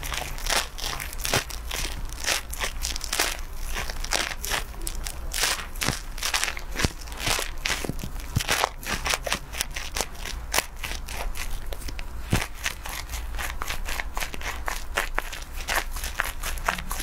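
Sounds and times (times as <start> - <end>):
fingers scrubbing wet hair: 0.0 - 17.0.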